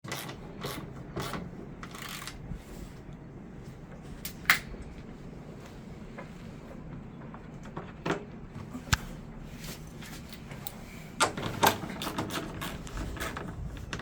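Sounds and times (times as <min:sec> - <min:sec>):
scraping and rubbing handling noise: 0:00.1 - 0:14.0.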